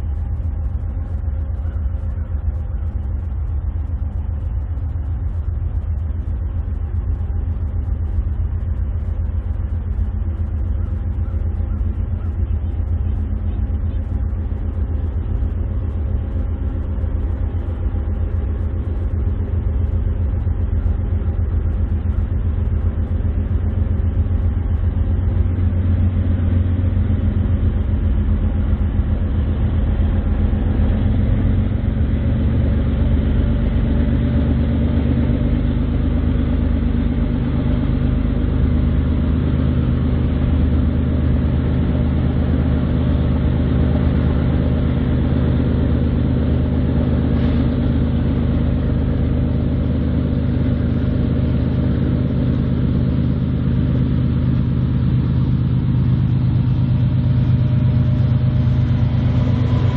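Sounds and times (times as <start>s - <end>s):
diesel locomotive engines running: 0.0s - 59.9s.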